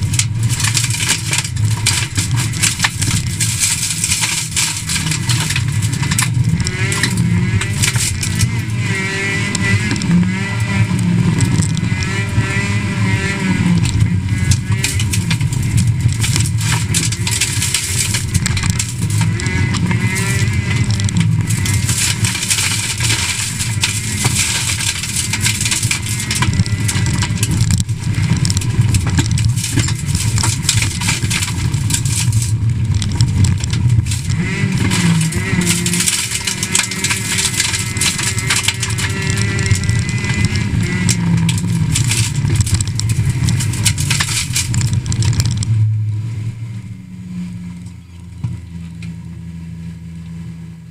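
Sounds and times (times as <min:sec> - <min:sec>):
gravel striking car underside: 0:00.0 - 0:46.8
rally car engine at high revs: 0:00.0 - 0:50.9.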